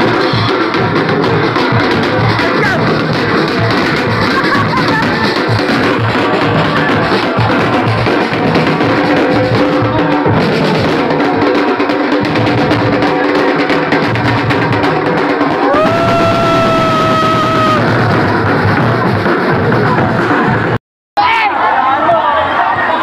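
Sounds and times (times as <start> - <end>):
marching band playing: 0.0 - 20.8
snare and bass drums beating: 0.0 - 20.8.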